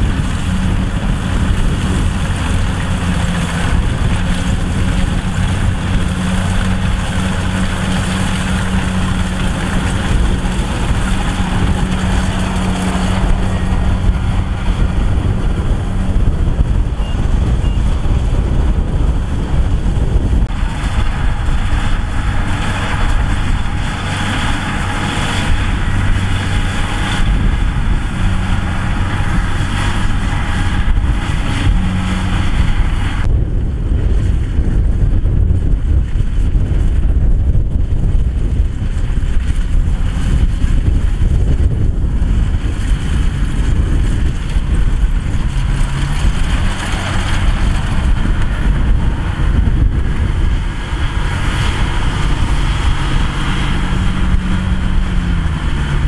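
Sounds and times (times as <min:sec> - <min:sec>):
diesel engine humming: 0:00.0 - 0:56.0
loud rushing noise: 0:00.0 - 0:56.0.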